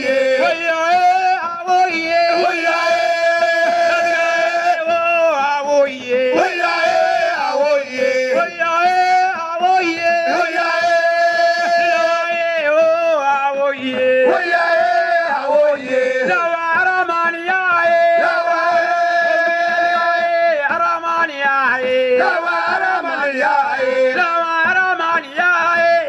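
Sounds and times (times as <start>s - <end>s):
man singing a chant-like melody: 0.0s - 26.0s.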